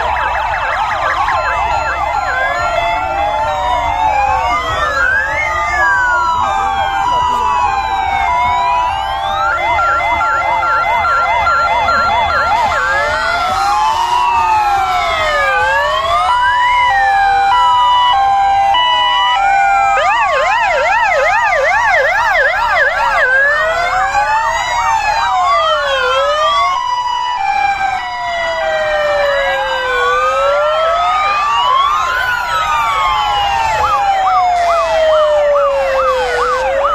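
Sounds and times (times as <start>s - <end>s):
fast yelping siren: 0.0s - 36.9s
rising and falling siren wails: 0.0s - 36.9s
two-tone hi-lo sirens: 0.0s - 36.9s.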